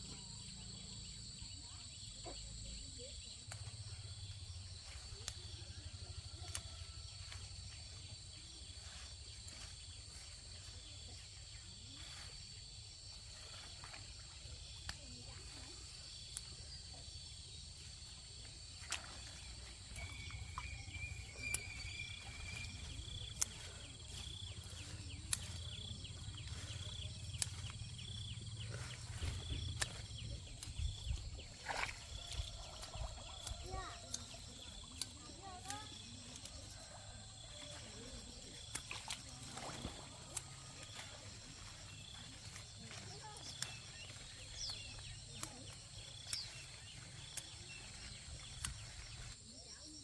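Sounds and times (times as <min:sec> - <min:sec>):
insects calling: 0:00.0 - 0:50.0.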